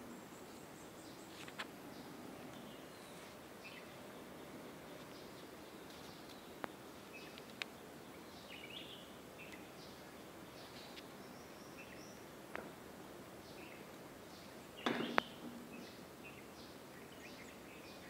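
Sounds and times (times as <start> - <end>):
faint outdoor ambience: 0.0 - 18.0.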